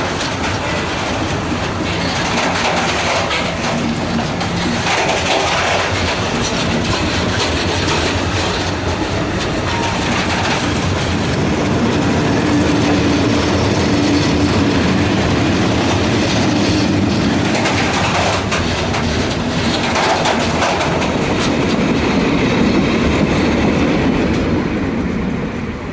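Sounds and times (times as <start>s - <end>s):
clickety-clack over rail joints: 0.0s - 25.9s
wheels rumbling on rails: 0.0s - 25.9s.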